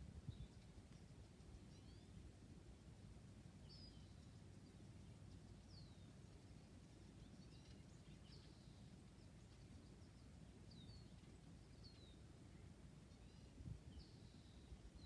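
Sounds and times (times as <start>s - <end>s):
bird chirping: 0.3s - 2.2s, 3.6s - 15.0s.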